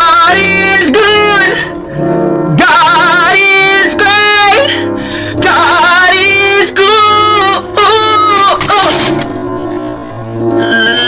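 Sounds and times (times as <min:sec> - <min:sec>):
person singing with vibrato: 0:00.0 - 0:09.5
low musical accompaniment: 0:00.0 - 0:11.0.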